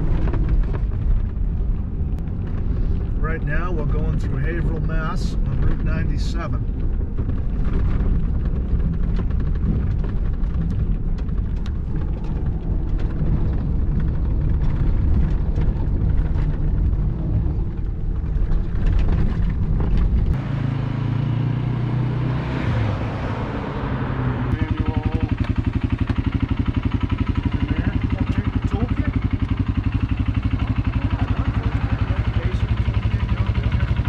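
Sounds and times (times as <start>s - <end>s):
knocks and rattles from road: 0.0s - 20.5s, 22.4s - 34.0s
car engine and tyres rumbling: 0.0s - 34.0s
steady engine hum with drone: 0.0s - 34.0s.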